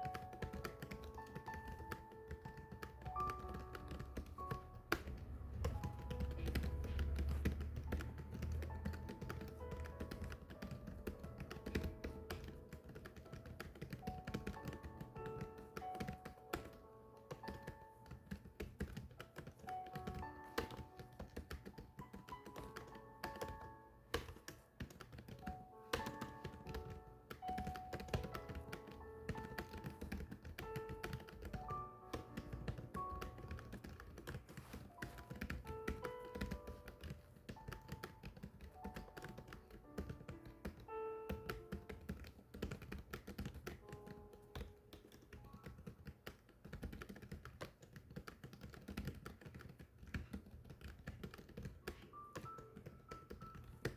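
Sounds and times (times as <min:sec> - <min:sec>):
keyboard typing: 0:00.0 - 0:53.9
soft background music: 0:00.0 - 0:53.9.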